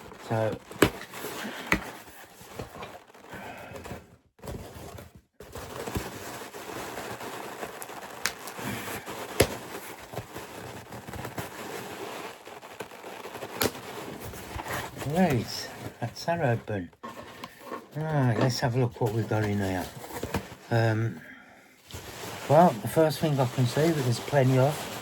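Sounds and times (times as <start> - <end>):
cardboard crackling and scraping: 0.0 - 21.2, 21.8 - 25.0.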